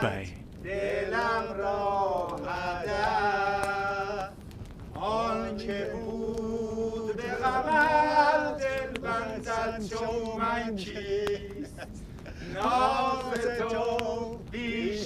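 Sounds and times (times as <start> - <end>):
men singing slow song: 0.6 - 15.0.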